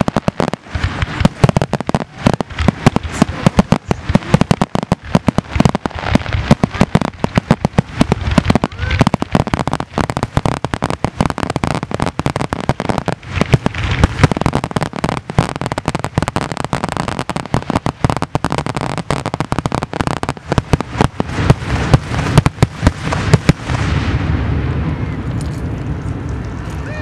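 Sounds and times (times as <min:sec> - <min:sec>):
steady noise: 0:00.0 - 0:27.0.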